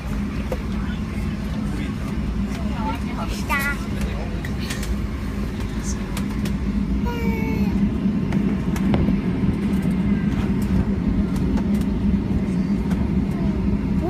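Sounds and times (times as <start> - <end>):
airliner cabin rumble and hum: 0.0 - 14.0.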